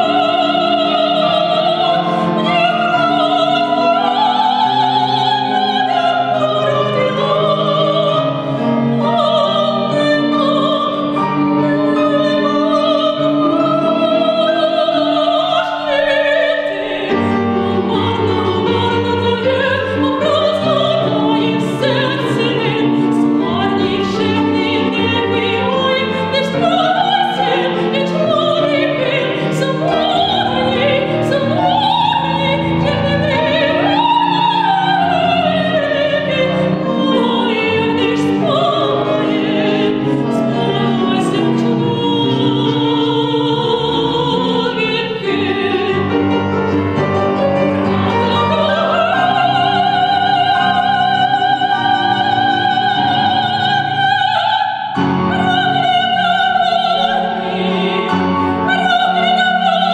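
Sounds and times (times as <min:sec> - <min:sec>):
woman singing operatically: 0:00.0 - 0:46.3, 0:48.0 - 0:59.9
grand piano: 0:00.0 - 0:59.9.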